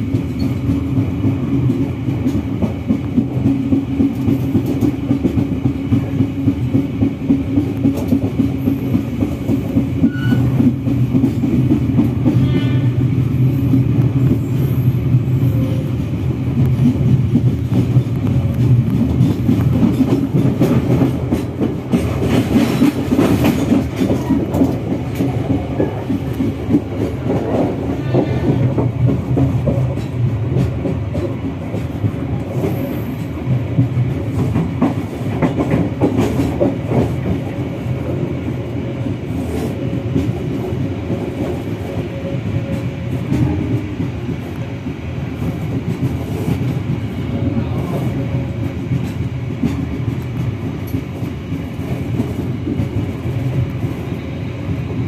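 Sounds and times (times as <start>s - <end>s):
train interior hum: 0.0s - 55.0s.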